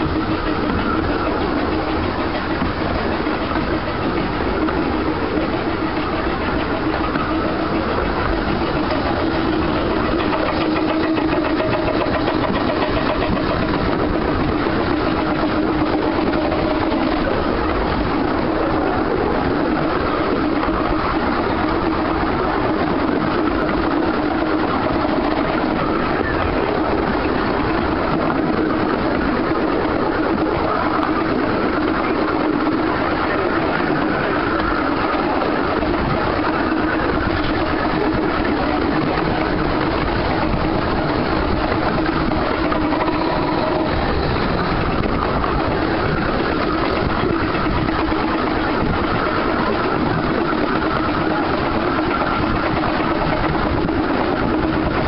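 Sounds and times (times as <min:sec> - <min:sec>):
steam train running on rails: 0:00.0 - 0:55.0.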